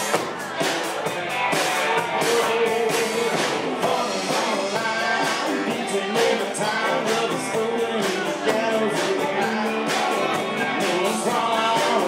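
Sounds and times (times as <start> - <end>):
bass: 0.0 - 12.0
drums: 0.0 - 12.0
electric guitars: 0.0 - 12.0
person singing: 0.0 - 12.0.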